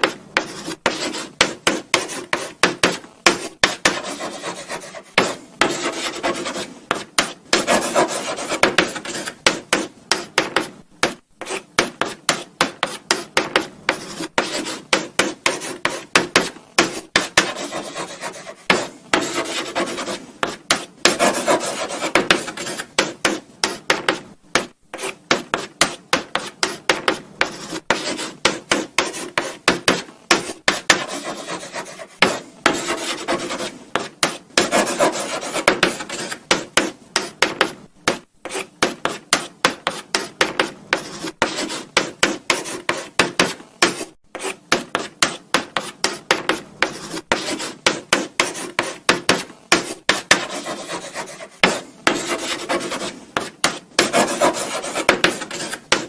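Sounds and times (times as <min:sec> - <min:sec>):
chalk writing on a blackboard: 0:00.0 - 0:56.0.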